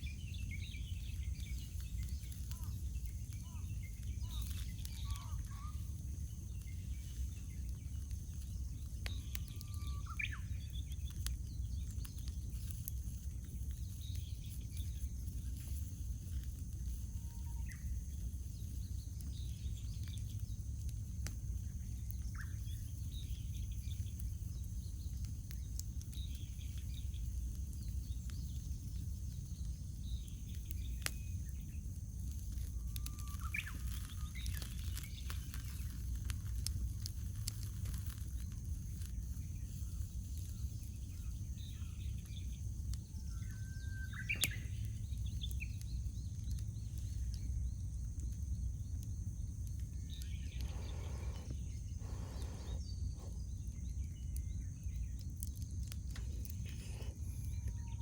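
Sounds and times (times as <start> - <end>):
birds chirping: 0.0 - 58.0
campfire crackling and popping: 0.0 - 58.0
low steady rumble: 0.0 - 58.0.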